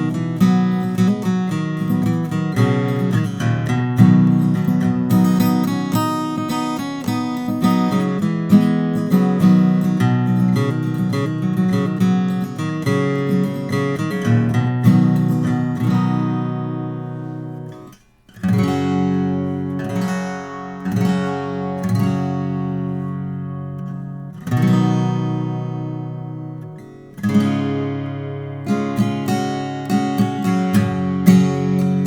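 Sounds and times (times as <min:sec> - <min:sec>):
acoustic guitar chords ringing: 0:00.0 - 0:32.0.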